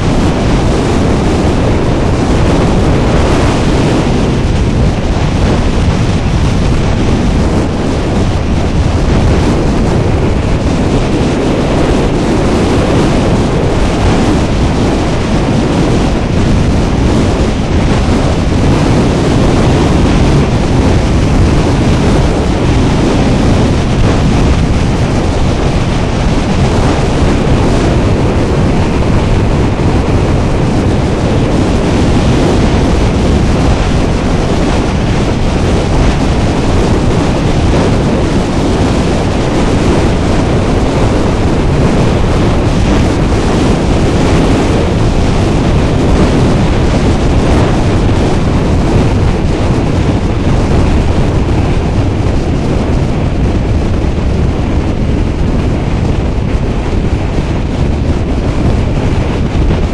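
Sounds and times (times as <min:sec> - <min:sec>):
road and engine noise: 0:00.0 - 0:59.9
wind rushing over microphone: 0:00.0 - 0:59.9.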